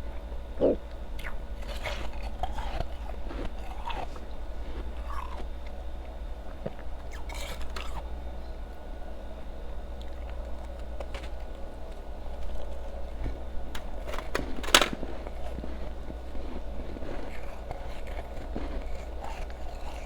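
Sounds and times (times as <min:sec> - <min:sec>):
ice being chewed: 0:00.0 - 0:08.8, 0:09.6 - 0:20.0
steady low hum: 0:00.0 - 0:20.0.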